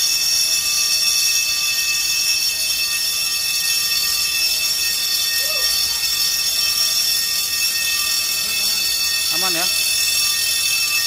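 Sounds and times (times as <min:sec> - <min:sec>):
steady alarm tone: 0:00.0 - 0:11.0.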